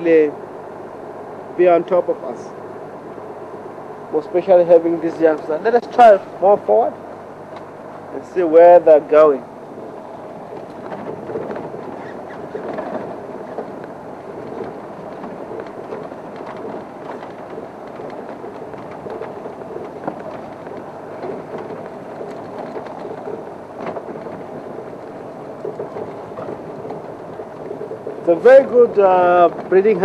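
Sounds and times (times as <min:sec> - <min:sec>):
vehicle engine and road rumble: 0:00.0 - 0:30.0
vehicle knocks and rattles: 0:04.2 - 0:30.0.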